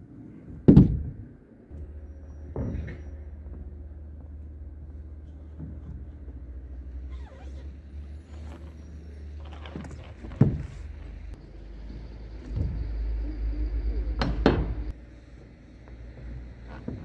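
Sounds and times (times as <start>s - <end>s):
low rumble: 1.0s - 17.0s.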